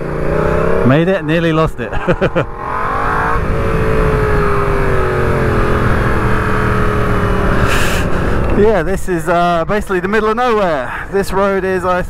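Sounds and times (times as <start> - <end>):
motorcycle engine: 0.0 - 10.4.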